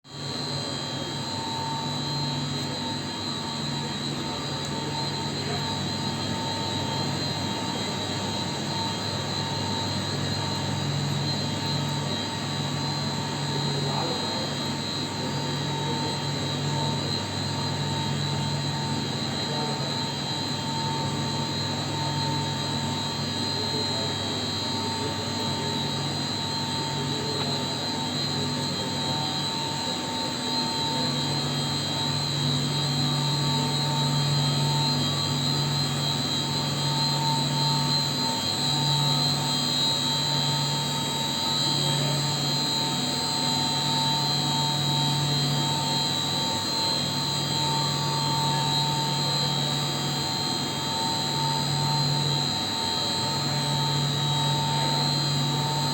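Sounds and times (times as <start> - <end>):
chiller machinery droning: 0.1 - 55.9.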